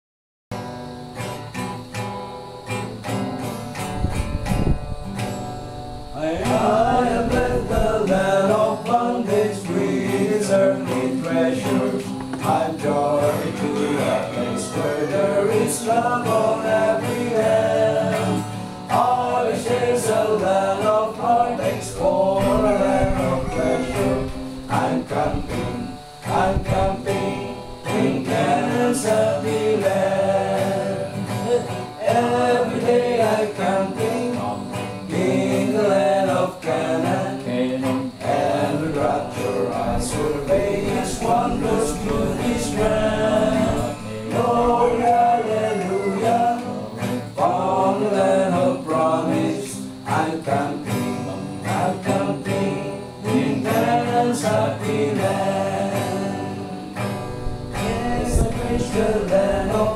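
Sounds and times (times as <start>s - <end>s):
acoustic guitar strumming: 0.5s - 59.9s
men singing a hymn: 6.0s - 59.9s.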